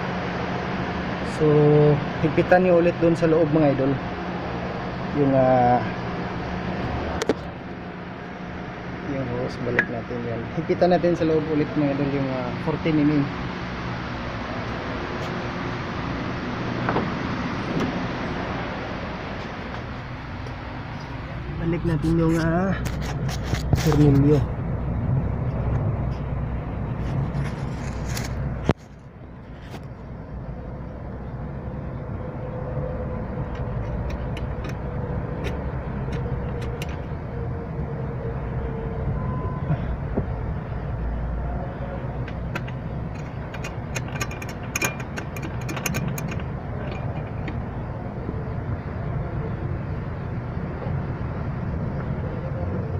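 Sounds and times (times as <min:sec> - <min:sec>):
steady low rumble: 0:01.1 - 0:52.9.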